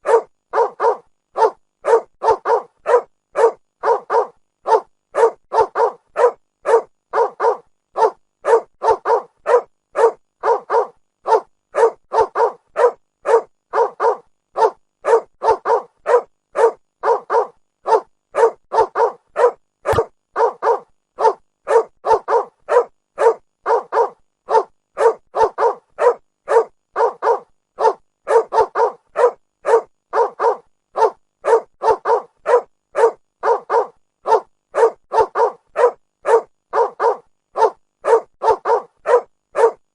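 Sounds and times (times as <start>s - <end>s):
dog barking: 0.0s - 39.8s.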